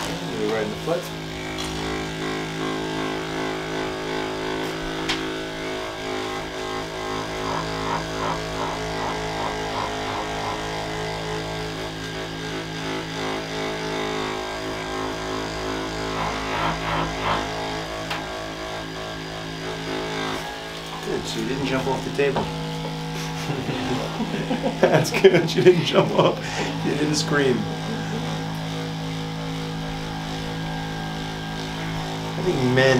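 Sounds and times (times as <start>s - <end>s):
massage gun motor buzzing: 0.0s - 32.9s.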